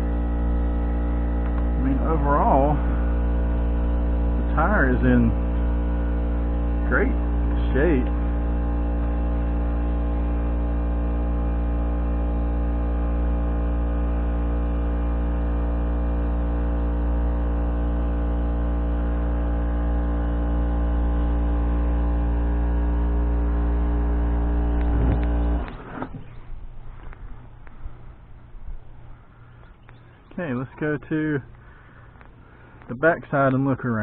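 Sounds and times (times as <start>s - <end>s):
electric air compressor running: 0.0s - 29.6s.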